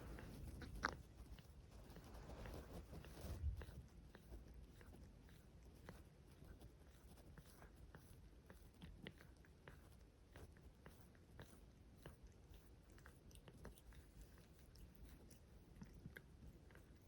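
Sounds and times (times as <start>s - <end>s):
cat nibbling: 0.0s - 17.0s
cats licking fur: 0.0s - 17.0s.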